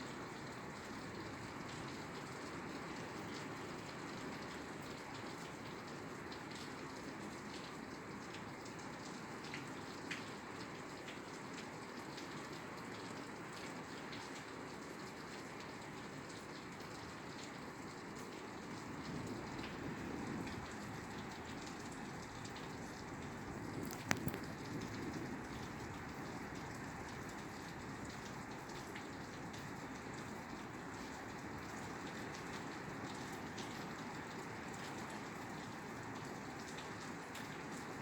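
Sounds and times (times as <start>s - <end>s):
rain on a roof: 0.0s - 38.0s.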